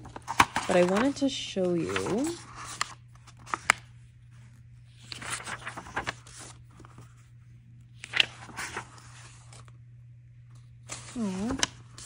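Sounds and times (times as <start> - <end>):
book pages turning: 0.0 - 9.8, 10.5 - 12.0.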